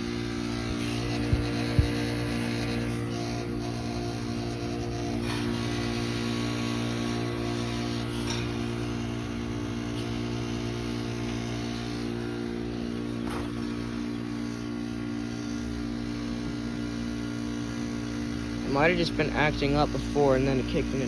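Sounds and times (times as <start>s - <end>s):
heat pump humming: 0.0s - 21.0s.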